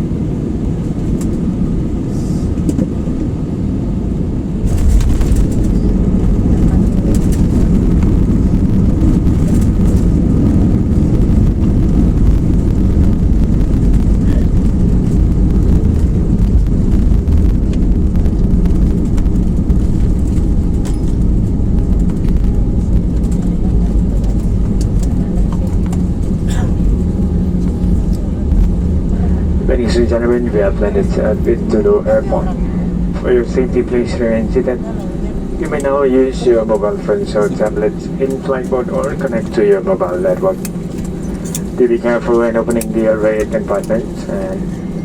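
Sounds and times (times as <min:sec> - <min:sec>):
aircraft cabin rumble on runway: 0:00.0 - 0:45.0.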